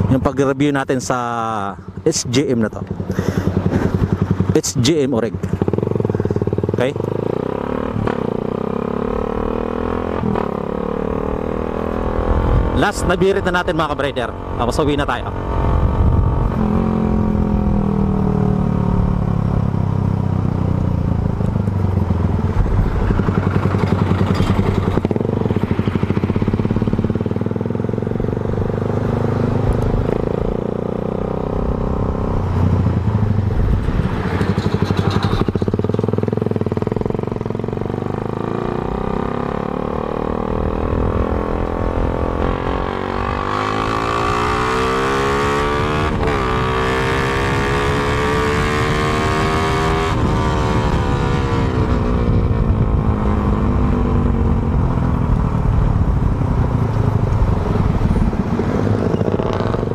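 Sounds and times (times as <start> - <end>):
motorcycle engine revving: 1.8 - 59.9.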